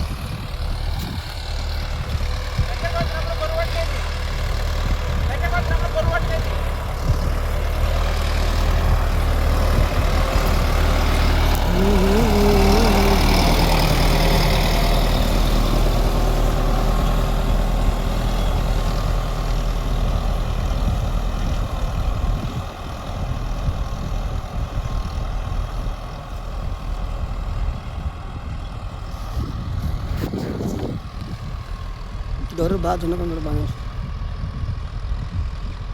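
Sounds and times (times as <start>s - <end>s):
tractor diesel engine droning: 0.0s - 35.9s.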